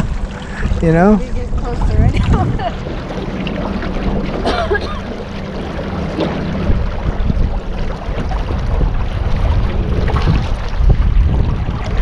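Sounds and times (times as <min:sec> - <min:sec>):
boat motor drone: 0:00.0 - 0:12.0
wind rumbling on microphone: 0:00.0 - 0:12.0.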